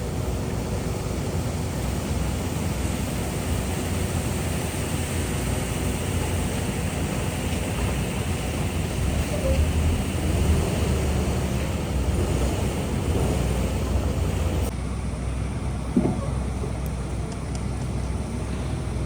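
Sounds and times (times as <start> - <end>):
heavy machinery rumble: 0.0 - 19.0.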